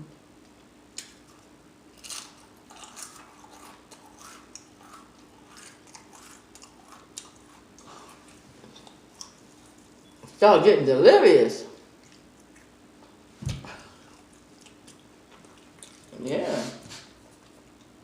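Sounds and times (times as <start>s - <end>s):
crunching and chewing: 0.5s - 10.2s, 11.8s - 16.2s, 16.9s - 18.0s.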